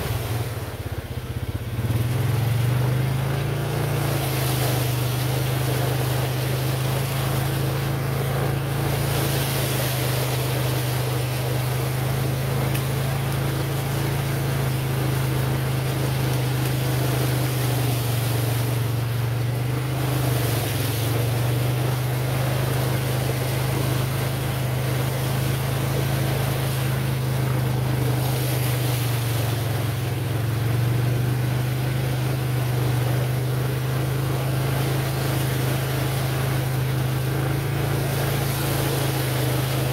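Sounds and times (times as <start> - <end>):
quad bike engine running: 0.0 - 39.9
wind and water rushing: 0.0 - 39.9.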